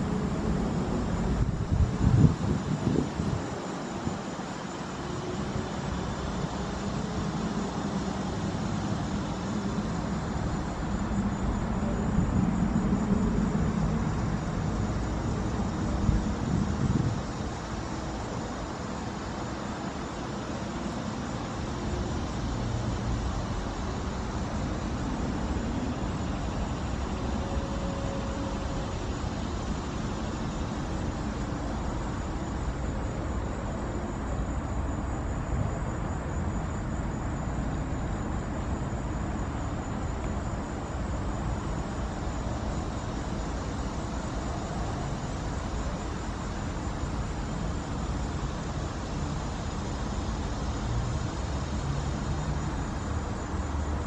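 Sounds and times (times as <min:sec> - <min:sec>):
distant road traffic rumble: 0:00.0 - 0:54.0.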